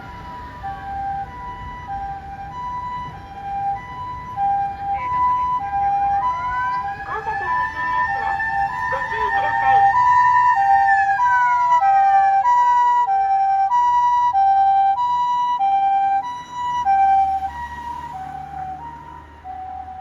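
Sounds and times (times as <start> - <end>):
mechanical motor siren wail: 0.0 - 20.0
two-tone electronic siren: 0.0 - 20.0.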